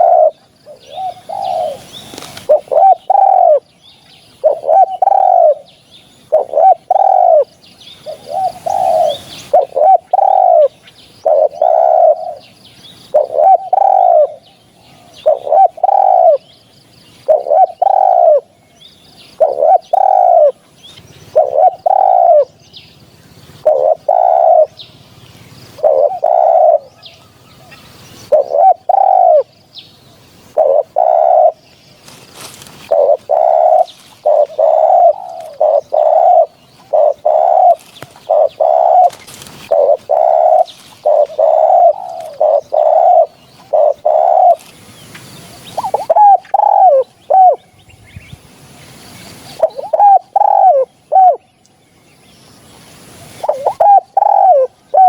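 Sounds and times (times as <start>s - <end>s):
dove cooing: 0.0s - 3.8s, 4.4s - 16.5s, 17.2s - 18.6s, 19.3s - 44.8s, 45.6s - 47.7s, 49.5s - 51.5s, 53.2s - 55.0s
small birds chirping: 0.0s - 55.0s.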